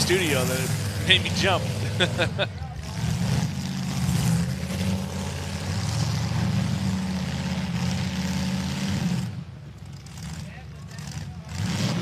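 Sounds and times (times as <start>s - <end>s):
car engines running hard: 0.0s - 12.0s.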